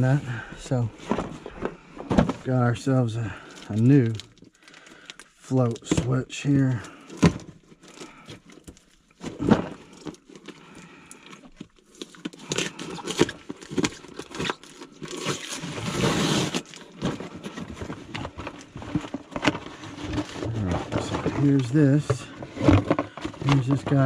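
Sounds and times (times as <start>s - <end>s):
packaging crinkling and rustling: 0.0s - 24.0s.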